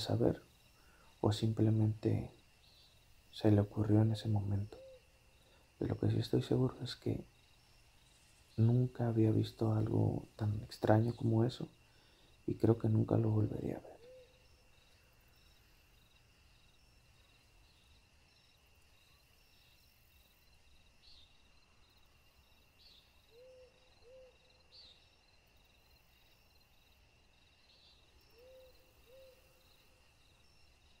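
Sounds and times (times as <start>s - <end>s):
insects chirping: 0.0s - 31.0s
insects droning: 0.0s - 31.0s.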